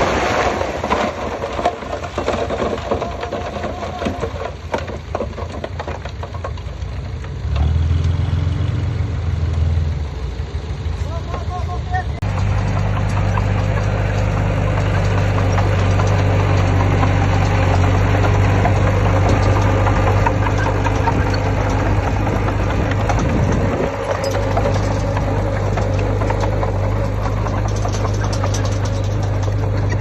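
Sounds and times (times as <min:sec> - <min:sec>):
metallic clanking and rattling: 0:00.0 - 0:07.7, 0:10.9 - 0:30.0
heavy diesel engine running: 0:00.0 - 0:30.0.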